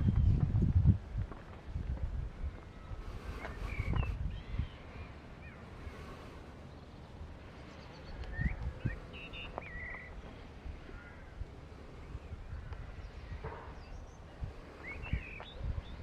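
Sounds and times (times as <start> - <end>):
low outdoor rumble: 0.0 - 16.0
small birds chirping: 2.3 - 16.0.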